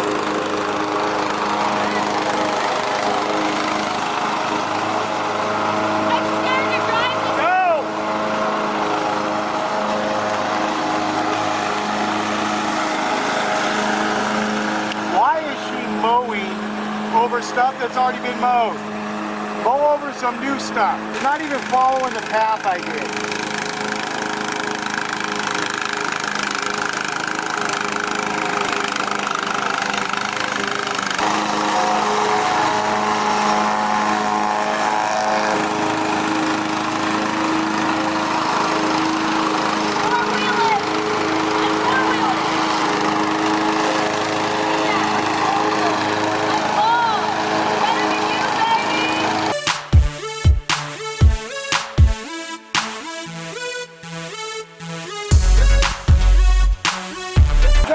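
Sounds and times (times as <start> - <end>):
riding lawn mower engine: 0.0 - 49.6.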